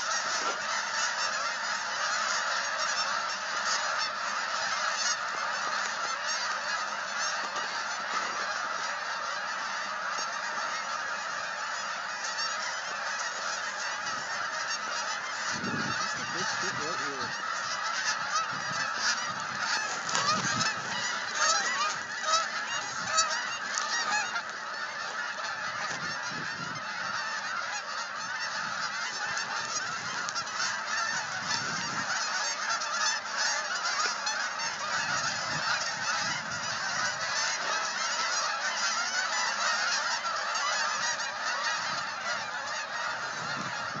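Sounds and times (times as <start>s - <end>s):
geese honking: 0.0s - 44.0s.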